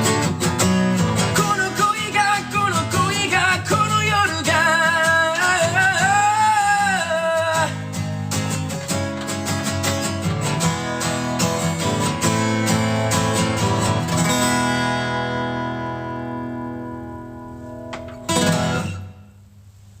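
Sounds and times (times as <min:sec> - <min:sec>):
acoustic guitar strumming: 0:00.0 - 0:19.8.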